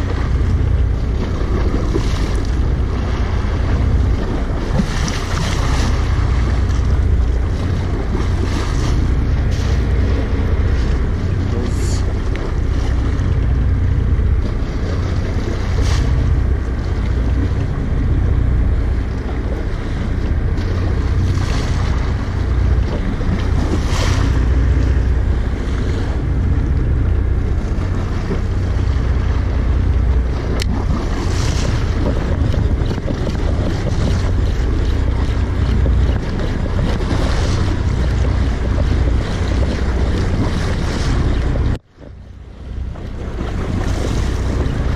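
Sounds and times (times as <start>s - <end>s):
sea waves washing: 0.0s - 44.9s
water splashing: 0.0s - 44.9s
wind buffeting microphone: 0.0s - 44.9s.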